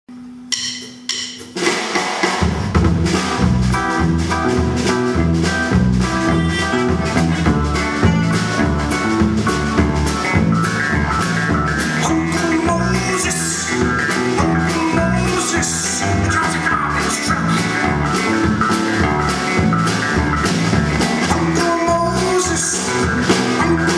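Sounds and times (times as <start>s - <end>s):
rock band playing live: 0.2s - 23.9s.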